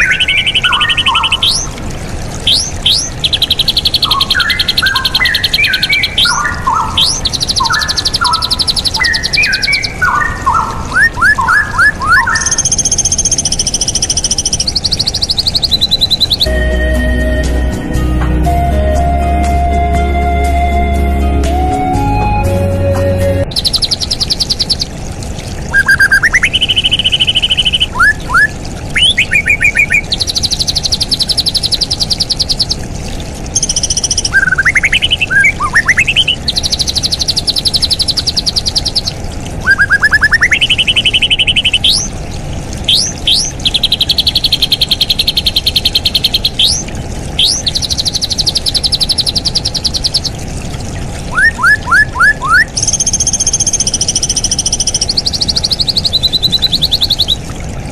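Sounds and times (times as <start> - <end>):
songbird singing trills: 0.0 - 1.8, 2.4 - 25.0, 25.7 - 32.9, 33.5 - 42.2, 42.8 - 50.4, 51.3 - 57.5.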